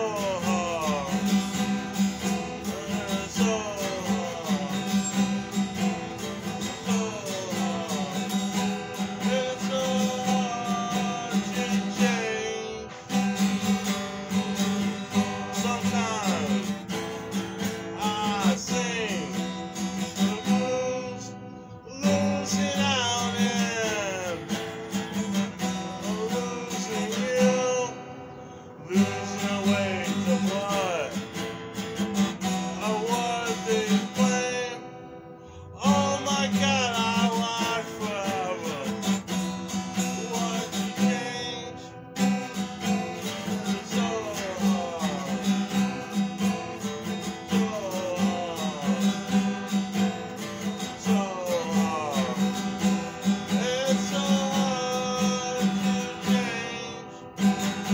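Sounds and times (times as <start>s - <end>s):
acoustic guitar strumming: 0.0s - 57.9s.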